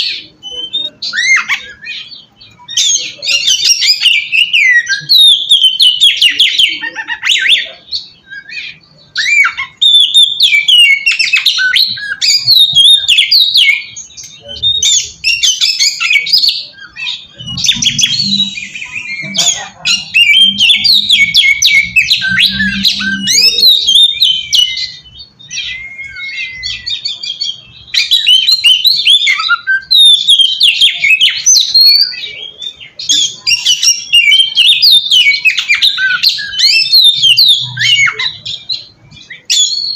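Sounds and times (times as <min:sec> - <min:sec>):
songbird singing scratchy whistles: 0:00.2 - 0:39.9.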